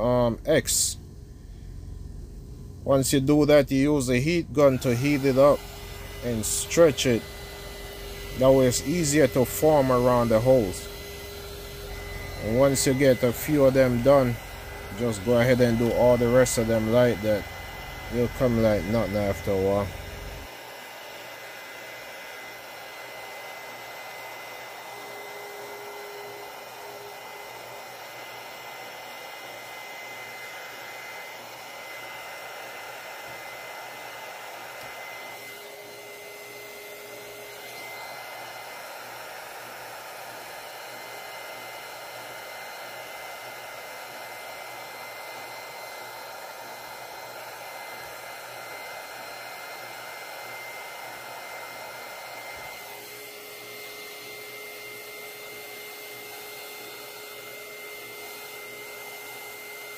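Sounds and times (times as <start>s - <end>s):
heat gun blowing with whine: 0.0s - 59.9s.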